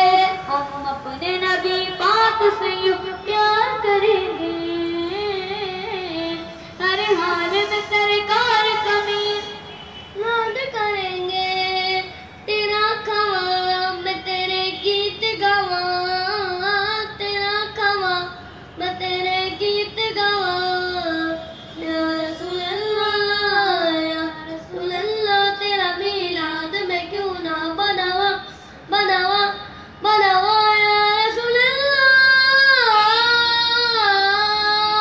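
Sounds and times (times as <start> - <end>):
boy singing into microphone: 0.0 - 9.6, 10.2 - 35.0.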